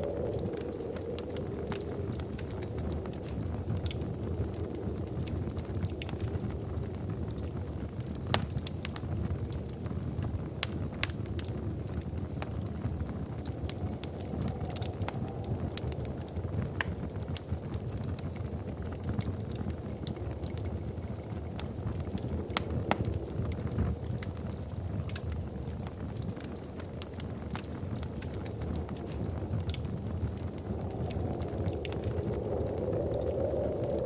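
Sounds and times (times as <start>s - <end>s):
low roar of flames: 0.0s - 34.0s
wood fire crackling: 0.0s - 34.0s.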